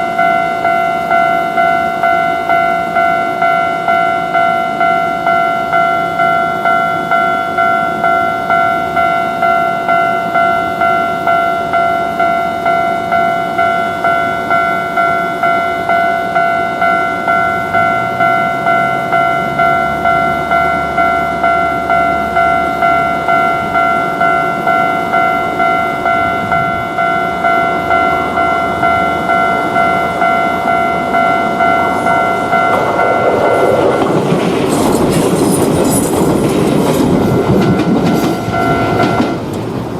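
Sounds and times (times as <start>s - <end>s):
crossing warning bell ringing: 0.0s - 39.9s
train running noise: 0.0s - 39.9s.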